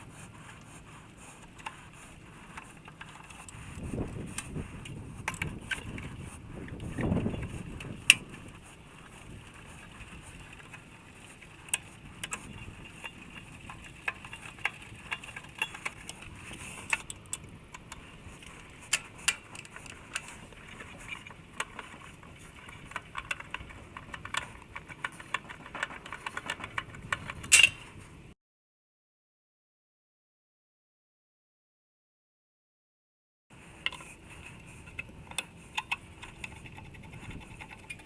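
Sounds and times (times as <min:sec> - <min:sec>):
light clicks and metallic taps: 0:00.4 - 0:27.9, 0:33.8 - 0:38.0.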